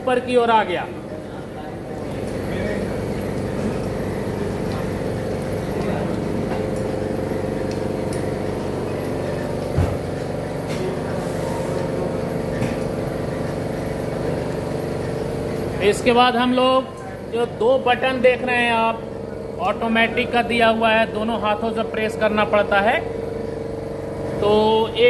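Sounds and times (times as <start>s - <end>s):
workshop machinery humming: 0.0s - 25.0s.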